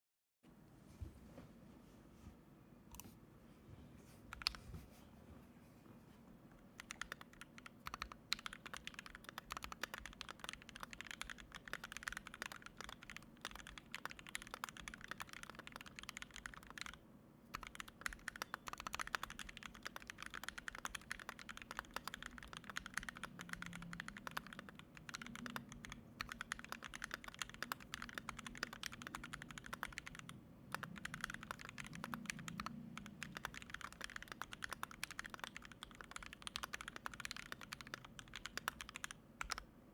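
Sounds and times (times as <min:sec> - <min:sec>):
mechanical keyboard typing: 0:04.3 - 0:04.6, 0:06.7 - 0:39.7.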